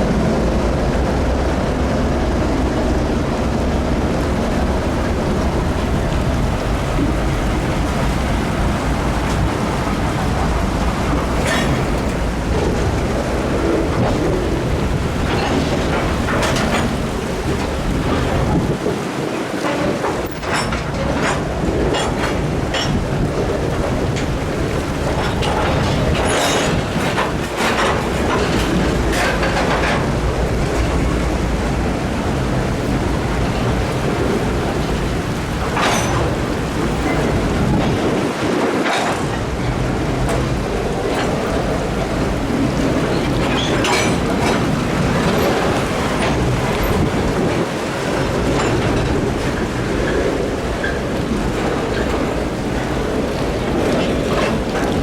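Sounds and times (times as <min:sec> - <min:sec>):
train rumbling: 0:00.0 - 0:55.0
water rushing and splashing: 0:00.0 - 0:55.0.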